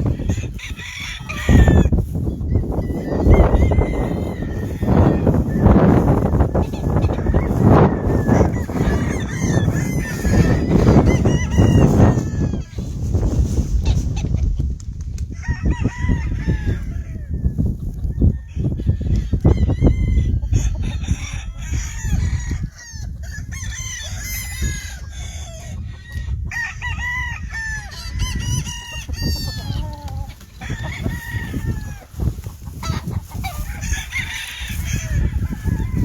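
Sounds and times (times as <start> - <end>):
rooster clucking: 0.0 - 12.9, 20.0 - 36.0
roosters crowing: 0.0 - 14.2, 15.3 - 36.0.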